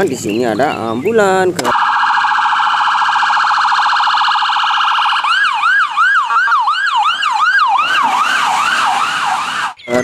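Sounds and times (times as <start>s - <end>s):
electronic siren wailing: 1.7s - 9.8s.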